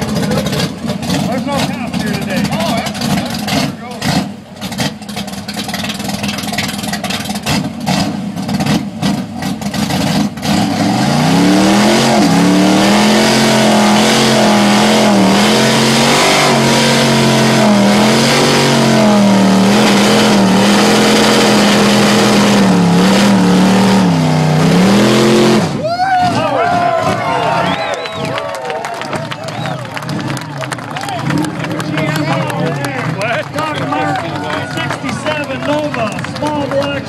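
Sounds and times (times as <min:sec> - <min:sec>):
car engine revving: 0:00.0 - 0:28.3, 0:29.2 - 0:37.0.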